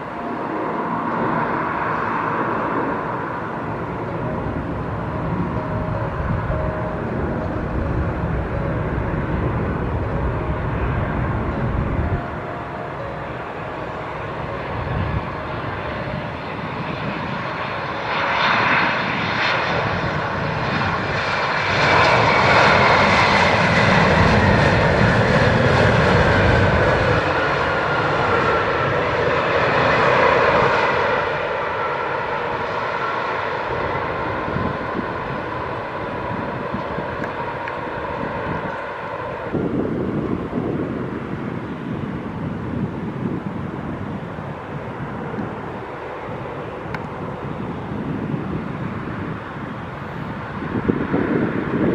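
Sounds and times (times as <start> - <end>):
jet airliner engines passing: 0.0 - 51.9.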